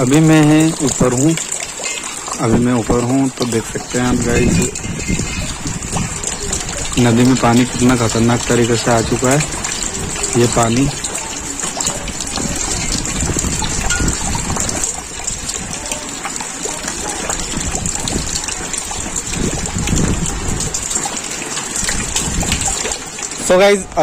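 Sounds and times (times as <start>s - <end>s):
heavy rain pouring: 0.0s - 24.0s
wind buffeting microphone: 0.0s - 24.0s.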